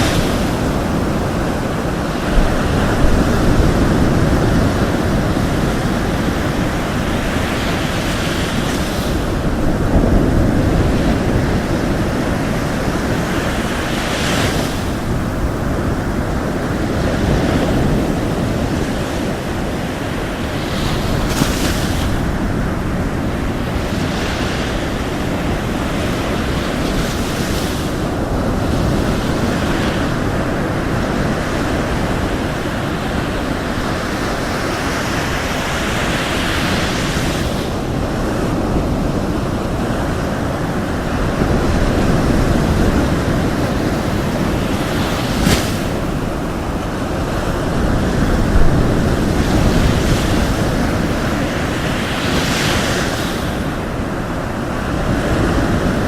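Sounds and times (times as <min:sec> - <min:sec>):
waves breaking on shore: 0:00.0 - 0:56.0
wind: 0:00.0 - 0:56.0.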